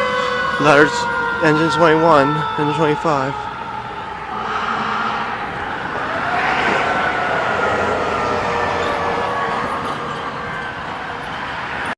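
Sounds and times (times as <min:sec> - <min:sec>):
fire engine driving past: 0:00.0 - 0:11.9
siren tone rising and falling: 0:00.0 - 0:11.9.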